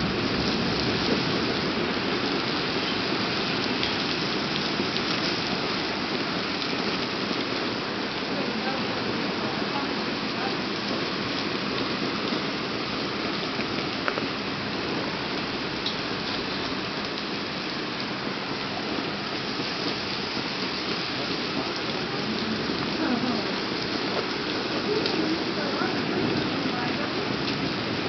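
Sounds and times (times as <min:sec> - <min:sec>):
heavy rain falling: 0:00.0 - 0:28.0
rain drops clicking: 0:00.0 - 0:28.0.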